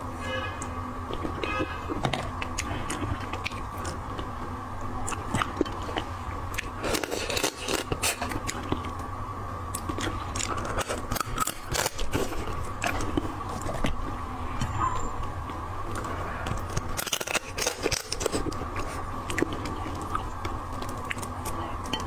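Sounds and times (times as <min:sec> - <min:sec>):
steady low hum: 0:00.0 - 0:22.0
chewing: 0:00.6 - 0:09.0, 0:09.7 - 0:22.0.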